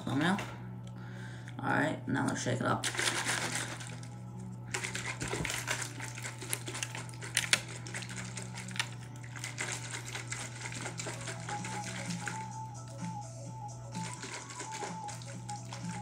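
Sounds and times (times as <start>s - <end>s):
liquid sloshing in shaker cup: 2.8s - 16.0s.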